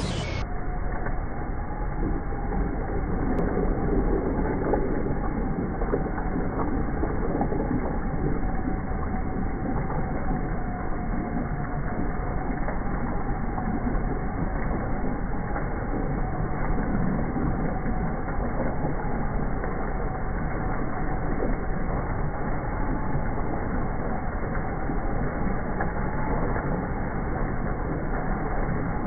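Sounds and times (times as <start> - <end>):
thin whine: 0.0 - 29.0.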